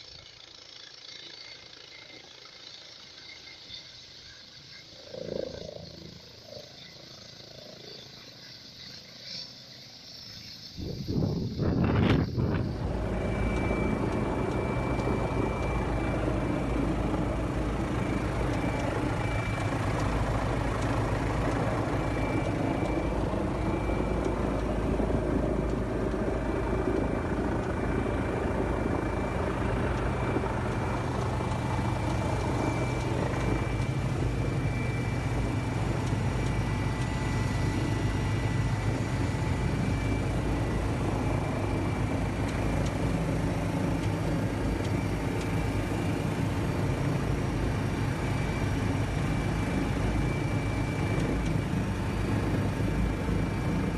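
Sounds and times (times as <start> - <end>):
helicopter cabin drone: 0.0 - 53.9
high turbine whine: 0.0 - 53.9.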